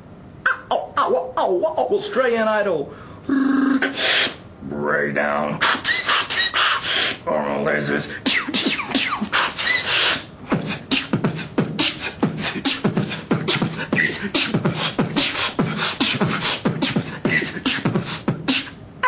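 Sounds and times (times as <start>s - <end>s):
man beatboxing: 0.4s - 2.1s, 3.3s - 4.4s, 5.5s - 18.8s.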